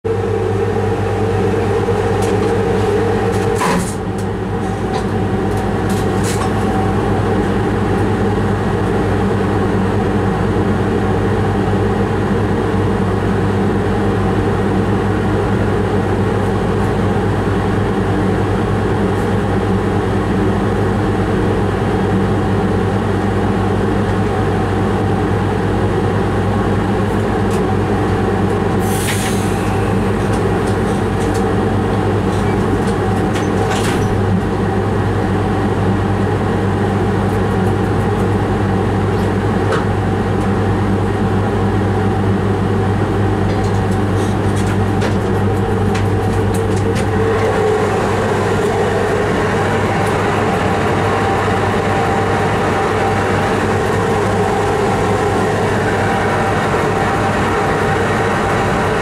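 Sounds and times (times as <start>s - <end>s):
locomotive cab hum: 0.1s - 59.0s.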